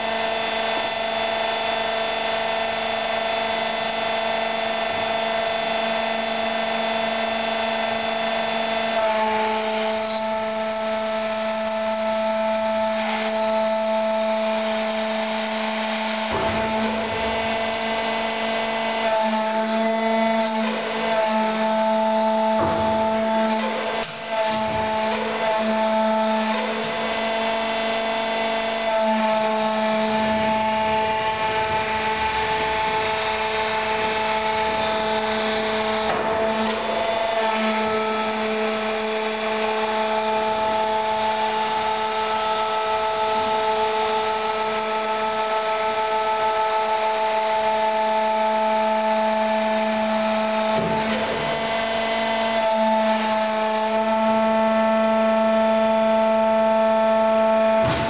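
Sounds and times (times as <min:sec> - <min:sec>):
motor hum and whine: 0:00.0 - 0:58.0.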